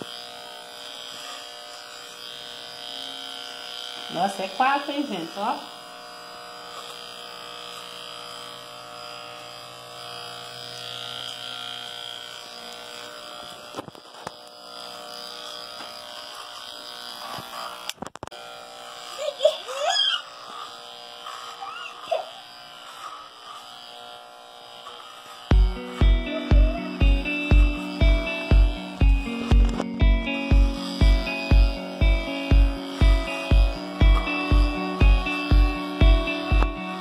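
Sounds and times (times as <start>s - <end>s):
electric hair clipper buzzing: 0.0s - 37.0s.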